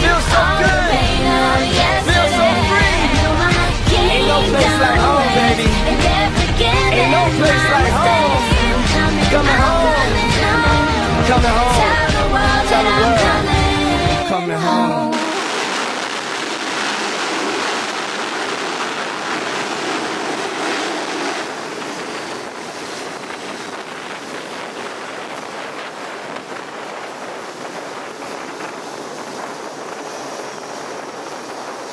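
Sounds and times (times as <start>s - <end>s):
jet engine rushing noise: 0.0s - 31.9s.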